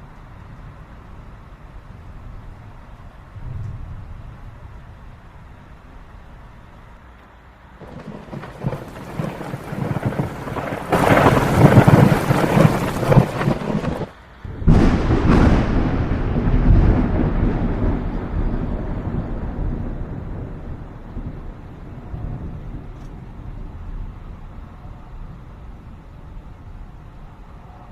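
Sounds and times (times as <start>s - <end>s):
heavy rain: 0.0s - 27.9s
deep rumbling thunder: 3.3s - 6.4s, 7.8s - 27.9s.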